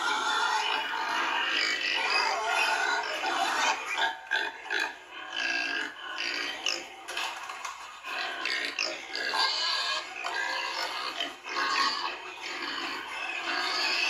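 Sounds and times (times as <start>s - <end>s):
piglets grunting and squealing: 0.0s - 14.0s.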